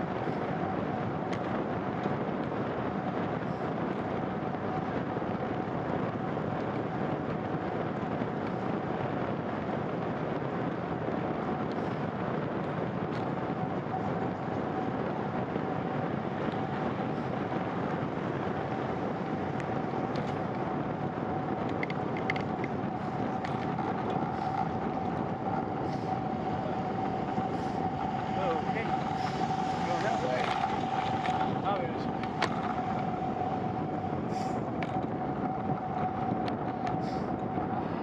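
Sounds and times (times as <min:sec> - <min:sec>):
steady whine: 0:00.0 - 0:38.0
tyres on wet road: 0:00.0 - 0:38.0
wind rushing: 0:00.0 - 0:38.0.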